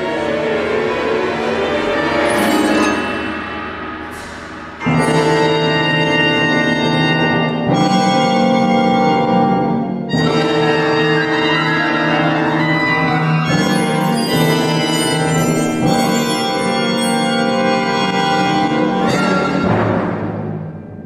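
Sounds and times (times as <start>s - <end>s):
orchestra playing sustained chords: 0.0s - 20.3s.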